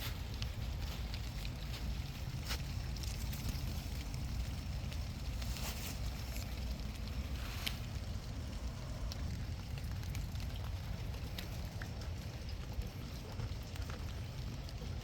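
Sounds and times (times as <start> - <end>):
rain falling: 0.0 - 15.0
steady low rumble: 0.0 - 15.0.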